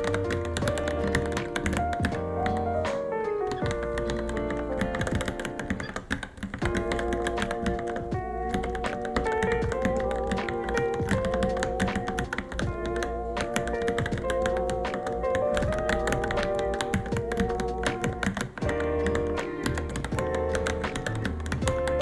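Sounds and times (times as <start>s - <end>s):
background music: 0.0s - 22.0s
mechanical keyboard typing: 0.0s - 22.0s.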